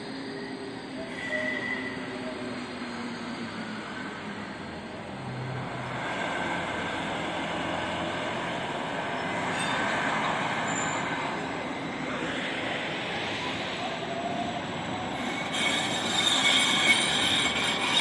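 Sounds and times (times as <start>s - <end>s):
city bus driving past: 0.0s - 15.4s.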